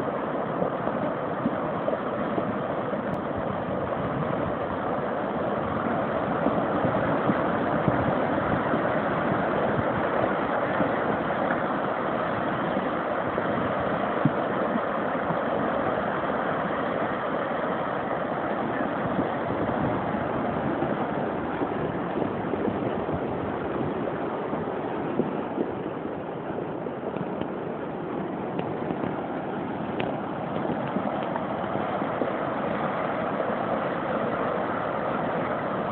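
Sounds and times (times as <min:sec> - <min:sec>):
floodwater rushing down a channel: 0:00.0 - 0:35.9.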